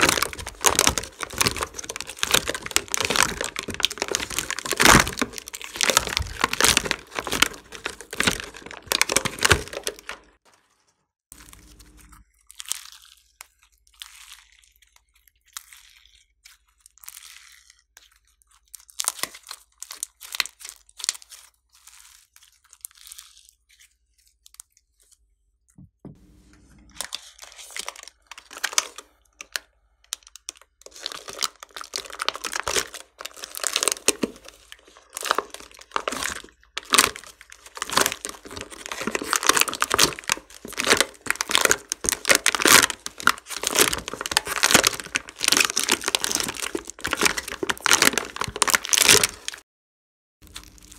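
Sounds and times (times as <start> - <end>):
slime crackling and popping: 0.0 - 10.4, 11.3 - 25.0, 27.0 - 49.6, 50.4 - 50.9.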